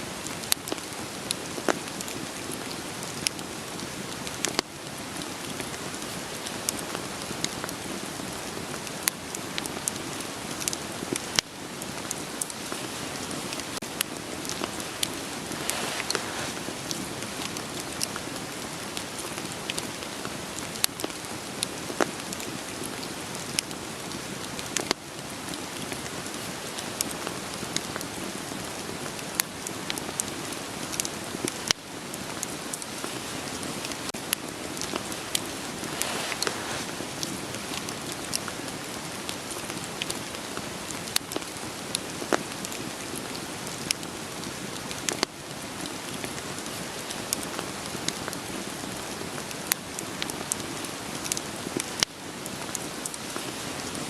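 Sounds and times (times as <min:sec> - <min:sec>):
rain falling: 0:00.0 - 0:54.0
wood fire crackling and popping: 0:00.2 - 0:45.3.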